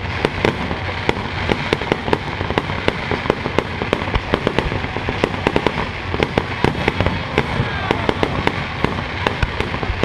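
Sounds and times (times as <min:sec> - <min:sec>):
continuous rumble: 0:00.0 - 0:10.0
fireworks bursting with sharp bangs: 0:00.0 - 0:10.0.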